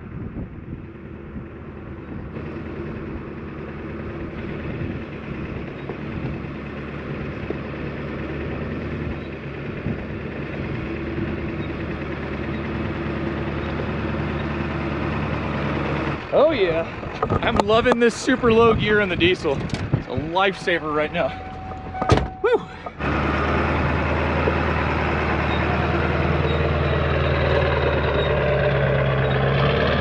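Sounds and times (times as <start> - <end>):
diesel truck engine at low revs: 0.0 - 30.0.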